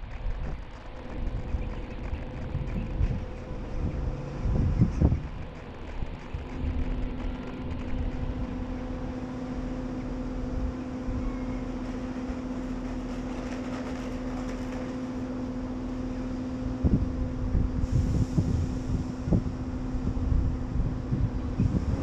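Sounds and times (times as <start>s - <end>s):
diesel train engine hum: 0.0s - 22.0s.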